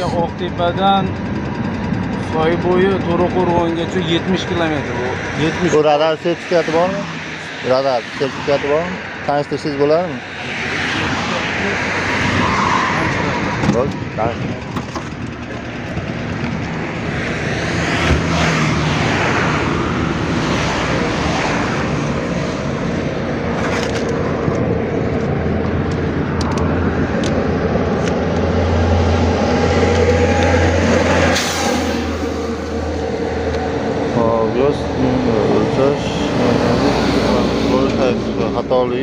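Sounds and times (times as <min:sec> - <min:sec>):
cars passing: 0:00.0 - 0:39.0
heavy vehicle engine hum: 0:00.0 - 0:39.0.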